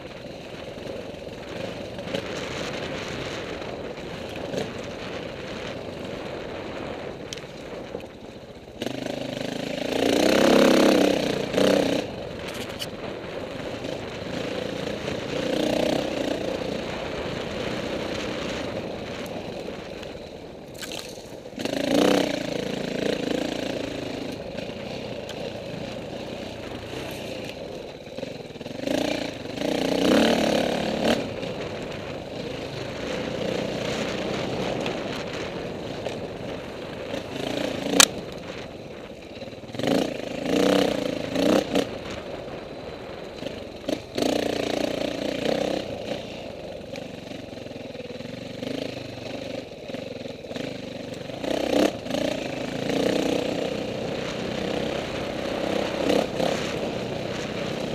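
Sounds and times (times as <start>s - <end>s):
dirt bike engine revving: 8.7s - 38.7s, 39.6s - 57.9s.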